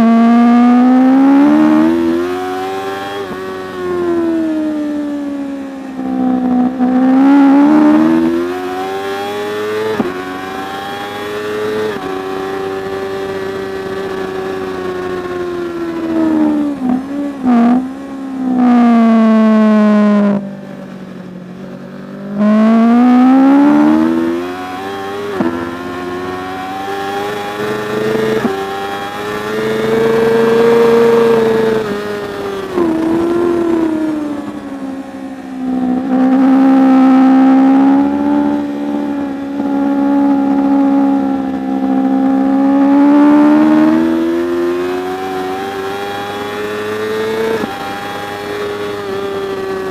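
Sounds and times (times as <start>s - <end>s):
racing motorcycle engine accelerating: 0.0s - 49.9s.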